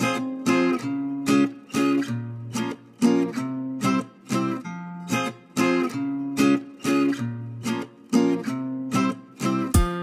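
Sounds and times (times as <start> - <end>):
strummed plucked-string chords: 0.0 - 10.0.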